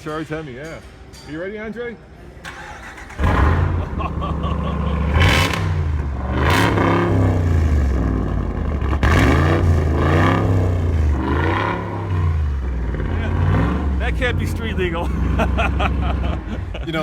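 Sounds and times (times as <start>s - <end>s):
truck engine idling and revving: 2.4s - 17.0s.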